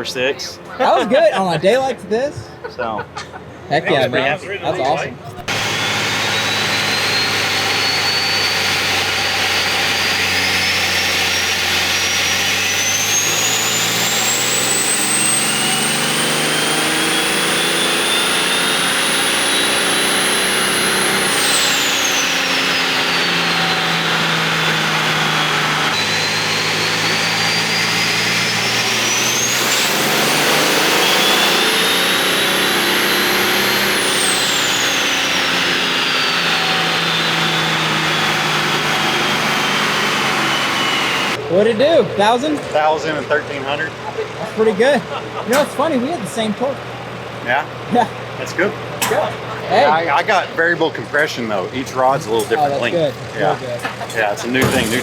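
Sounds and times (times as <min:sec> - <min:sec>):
high turbo whine: 0:03.5 - 0:55.0
diesel engine revving: 0:05.4 - 0:55.0.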